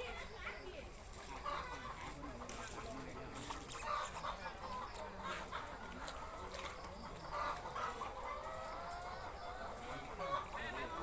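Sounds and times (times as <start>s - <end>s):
fowl clucking: 1.3s - 11.0s.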